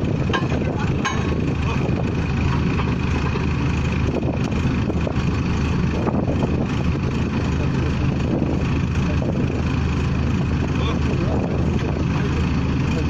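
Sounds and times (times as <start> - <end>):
compressor engine running: 0.0 - 13.0.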